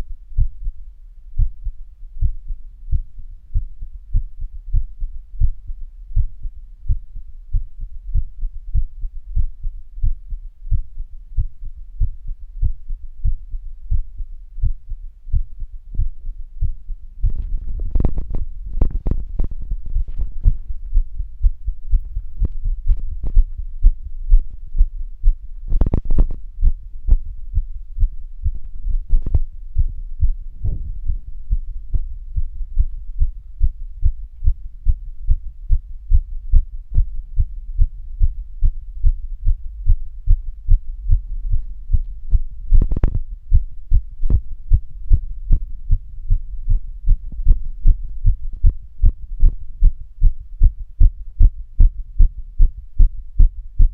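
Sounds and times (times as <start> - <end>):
heartbeat thudding: 0.4 - 0.8, 1.4 - 53.9.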